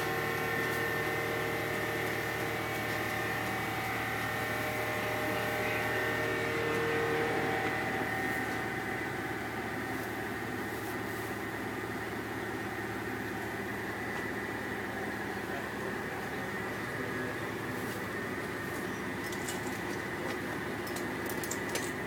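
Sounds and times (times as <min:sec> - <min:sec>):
heavy machinery engine running: 0:00.0 - 0:22.0
steady tonal hum: 0:00.0 - 0:22.0.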